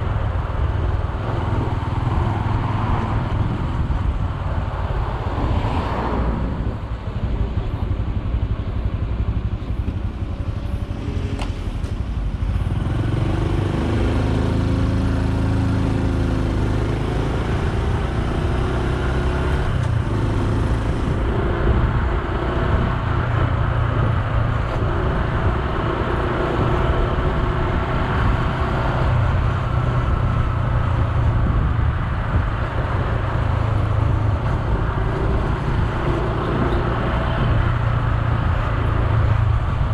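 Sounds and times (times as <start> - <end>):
road and wind noise: 0.0 - 39.9
motorcycle engine running: 6.9 - 39.9.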